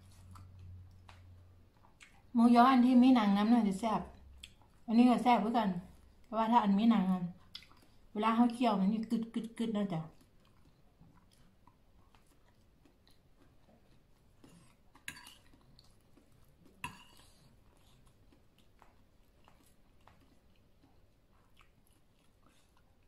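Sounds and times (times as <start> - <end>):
quiet chewing: 0.0 - 2.4, 4.0 - 23.0.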